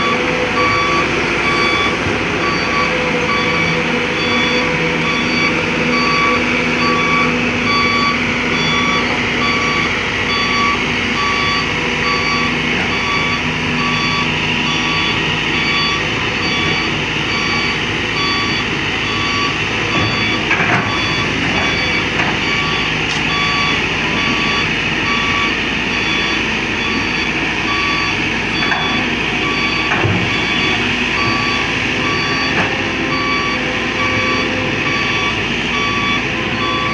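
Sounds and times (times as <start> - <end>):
excavator diesel engine humming: 0.0 - 36.9
warning alarm beeping: 0.0 - 36.9.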